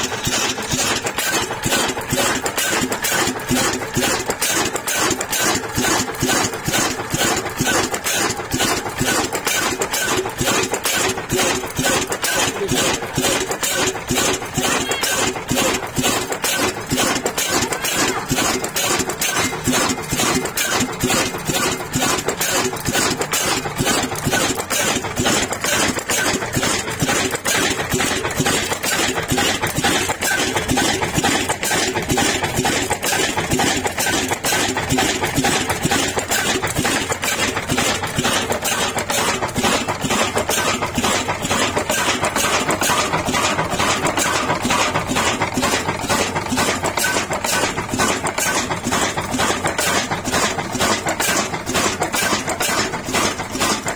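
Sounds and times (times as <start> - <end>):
stationary diesel engine running: 0.0 - 53.9.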